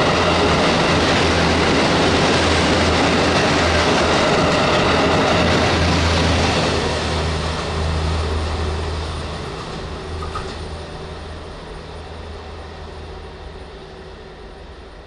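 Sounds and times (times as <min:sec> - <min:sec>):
railcar diesel engine droning: 0:00.0 - 0:15.0
train rumble: 0:00.0 - 0:15.0.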